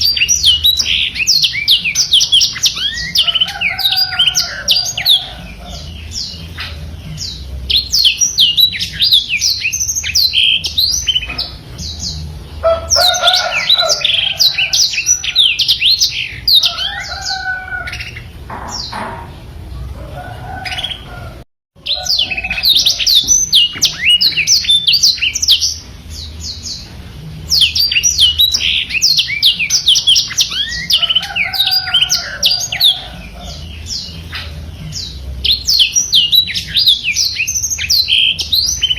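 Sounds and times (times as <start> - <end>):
canary twittering song: 0.0 - 38.9.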